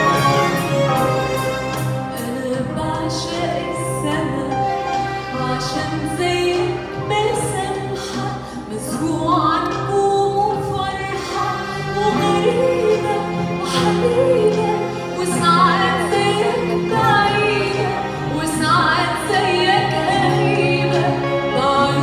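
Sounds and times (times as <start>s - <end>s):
string orchestra: 0.0s - 22.0s
woman singing: 2.0s - 22.0s.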